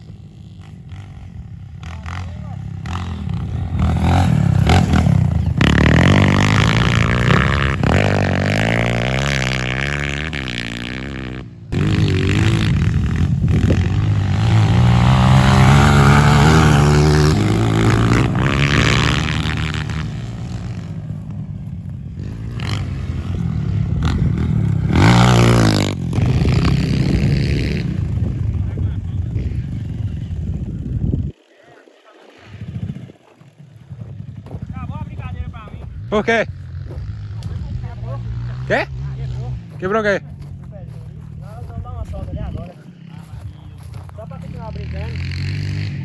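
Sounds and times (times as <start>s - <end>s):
dirt bike revving: 0.0s - 46.0s.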